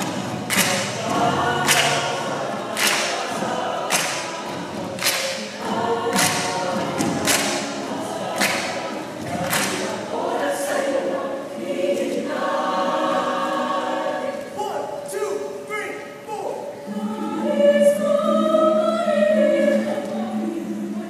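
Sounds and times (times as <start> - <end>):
chorus of voices singing: 0.0 - 15.6, 16.3 - 21.0.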